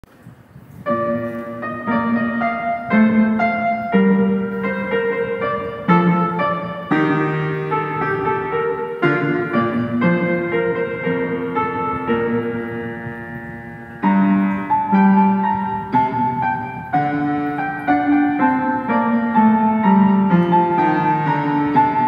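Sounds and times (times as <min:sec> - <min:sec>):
slow piano music: 0:00.1 - 0:22.0.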